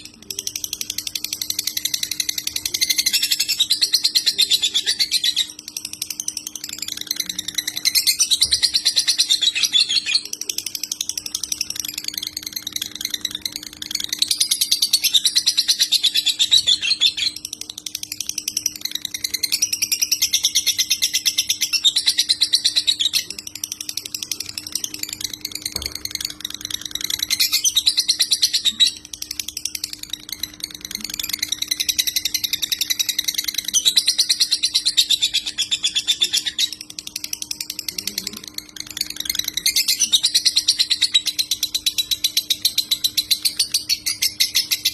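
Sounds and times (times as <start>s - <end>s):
bird singing chattering notes: 0.0s - 44.9s
faint low hum: 0.0s - 44.9s.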